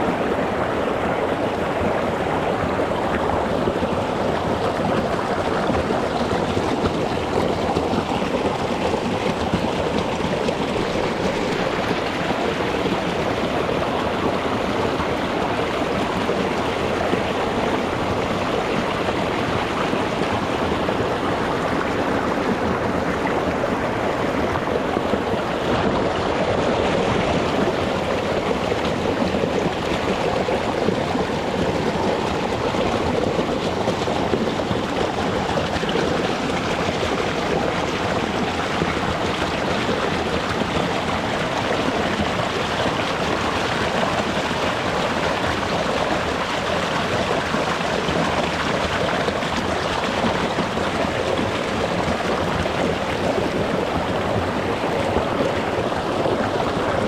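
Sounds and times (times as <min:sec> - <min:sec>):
mountain stream splashing over stones: 0:00.0 - 0:57.0.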